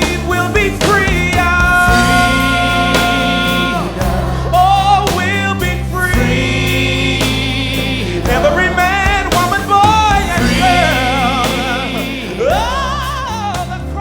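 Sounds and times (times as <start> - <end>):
instrumental accompaniment: 0.0 - 14.0
slow song with wavering voices: 1.9 - 14.0.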